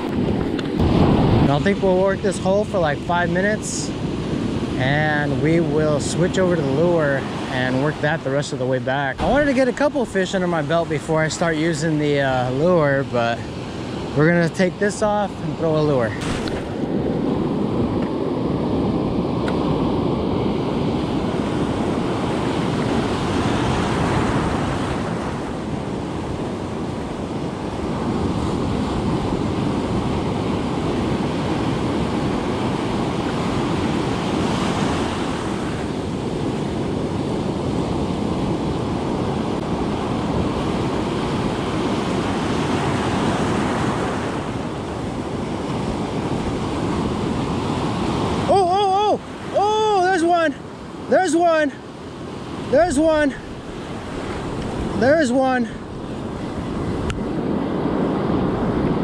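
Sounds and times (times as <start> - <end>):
ocean surf breaking on beach: 0.0 - 59.0
wind rumbling on microphone: 0.0 - 59.0.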